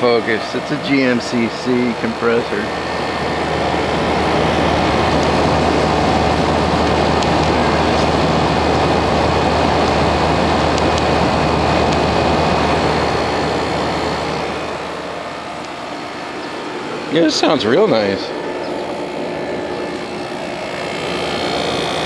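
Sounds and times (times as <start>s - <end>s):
air conditioner compressor hum: 0.0s - 22.0s
fan air rushing: 0.0s - 22.0s.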